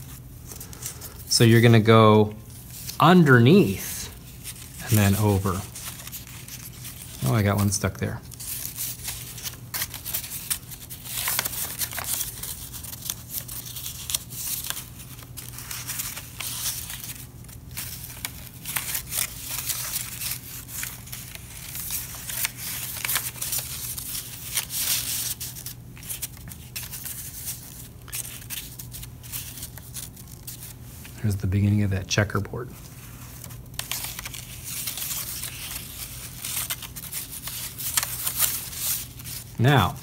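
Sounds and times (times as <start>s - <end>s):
paper rustling and crinkling: 0.0s - 31.4s, 32.3s - 40.0s.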